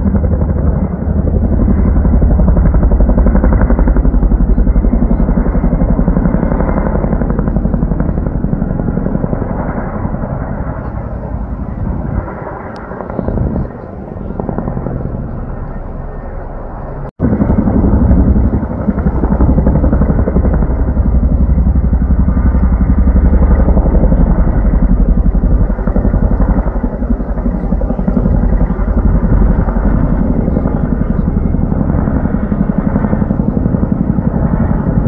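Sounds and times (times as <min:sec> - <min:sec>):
helicopter rotor chop: 0:00.0 - 0:35.0.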